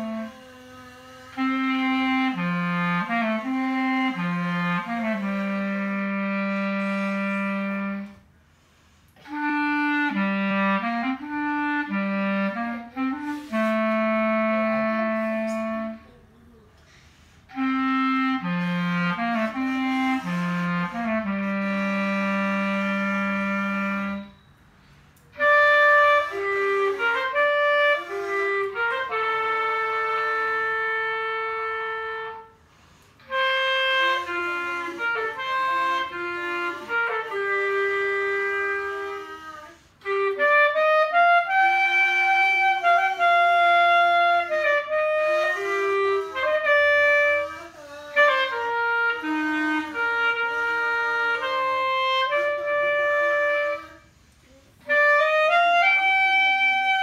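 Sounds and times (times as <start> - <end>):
clarinet melody: 0.0 - 57.0.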